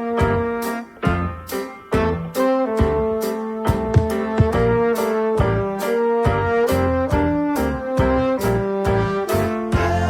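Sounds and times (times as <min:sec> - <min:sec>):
brass music over steady beat: 0:00.0 - 0:10.0.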